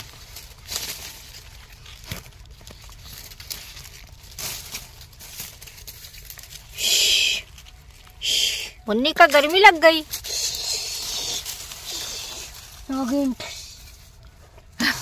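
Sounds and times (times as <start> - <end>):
dry leaves and stalks rustling: 0.0 - 15.0.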